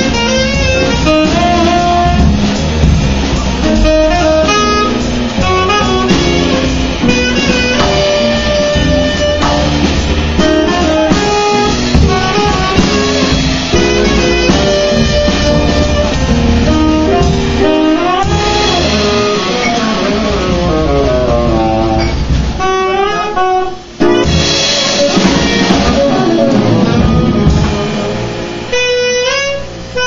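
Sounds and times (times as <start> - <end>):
plucked double bass: 0.0 - 23.4, 24.1 - 29.5
tenor saxophone jazz solo: 0.0 - 30.0.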